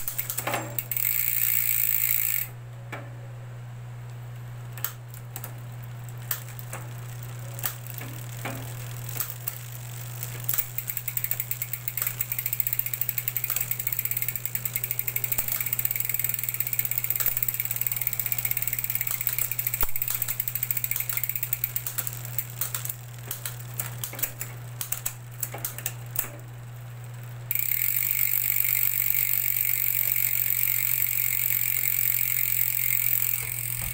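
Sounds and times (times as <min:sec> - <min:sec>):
bike drivetrain ticking and whirring: 0:00.0 - 0:03.2, 0:04.0 - 0:33.9
steady low hum: 0:00.0 - 0:33.9.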